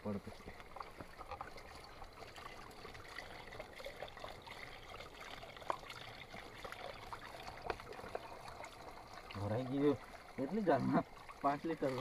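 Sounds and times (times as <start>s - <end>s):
water trickling into container: 0.0s - 12.0s.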